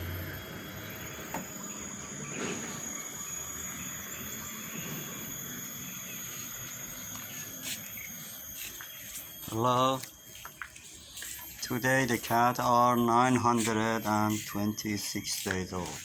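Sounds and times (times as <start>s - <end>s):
insect-like trilling: 0.0s - 16.0s.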